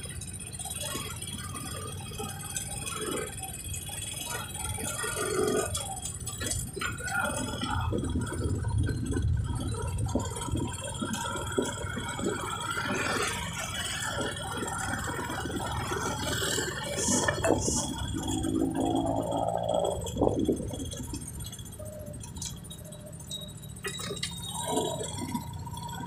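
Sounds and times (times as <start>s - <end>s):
small rattles and knocks: 0.0s - 26.0s
vehicle ride rumble: 0.0s - 26.0s.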